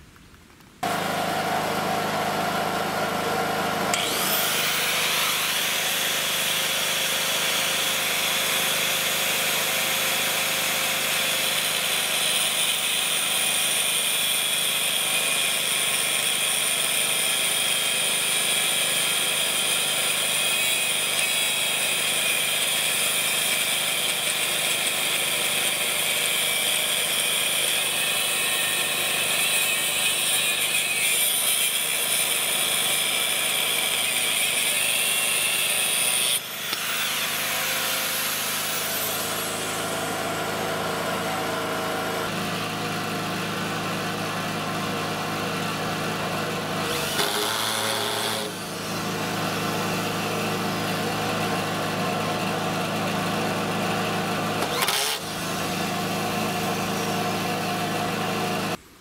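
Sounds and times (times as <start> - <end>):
angle grinder cutting metal: 0.8 - 58.8.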